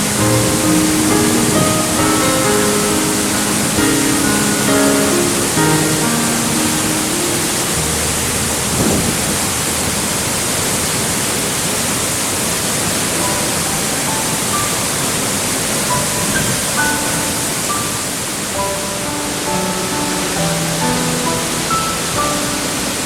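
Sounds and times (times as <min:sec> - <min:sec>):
soft background music: 0:00.0 - 0:09.9, 0:13.2 - 0:23.0
rushing falling water: 0:00.0 - 0:23.0.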